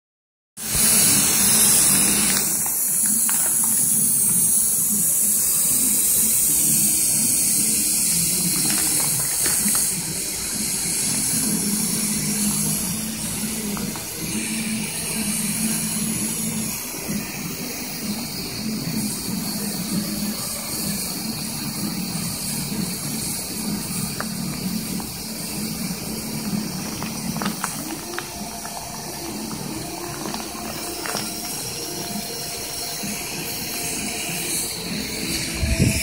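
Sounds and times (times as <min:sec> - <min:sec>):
loud hissing spray jet: 0:00.6 - 0:36.0.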